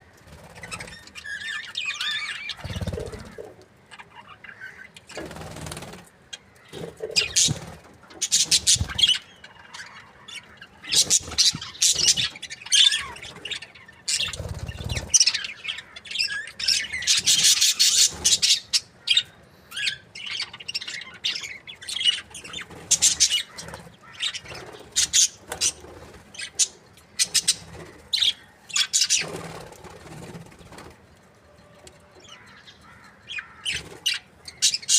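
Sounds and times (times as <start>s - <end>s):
budgerigars chirping and squawking: 0.2s - 30.9s, 32.2s - 34.9s.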